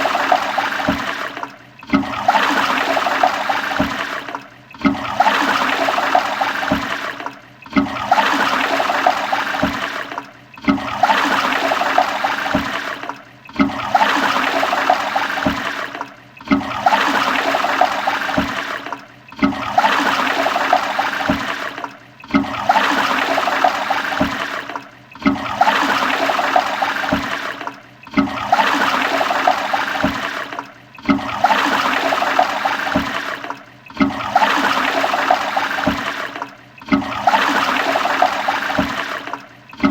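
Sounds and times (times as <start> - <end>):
toilet flushing: 0.0 - 39.9.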